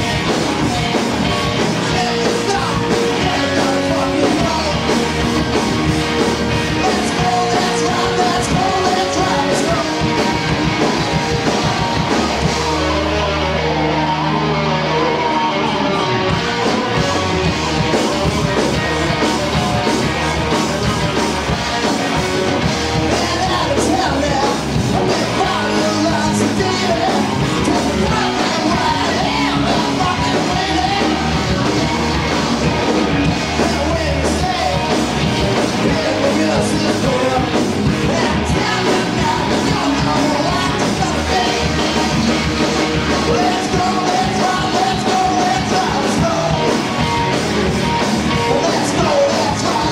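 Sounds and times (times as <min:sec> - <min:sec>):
bass guitar: 0:00.0 - 0:49.9
drum kit: 0:00.0 - 0:49.9
electric guitars: 0:00.0 - 0:49.9
person singing into a microphone: 0:00.4 - 0:05.5, 0:06.6 - 0:10.6, 0:11.5 - 0:47.0, 0:48.4 - 0:49.9.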